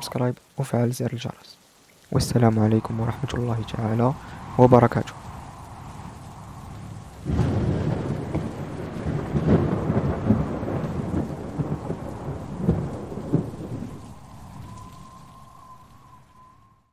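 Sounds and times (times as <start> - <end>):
rain: 0.0 - 16.9
thunder rumbling: 2.1 - 16.9
thunder cracks: 2.2 - 16.5.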